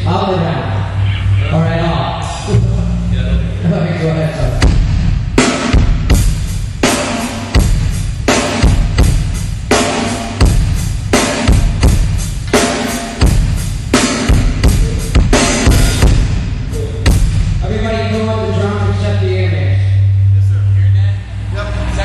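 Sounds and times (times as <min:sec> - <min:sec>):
drum kit playing a beat: 0:00.0 - 0:20.8.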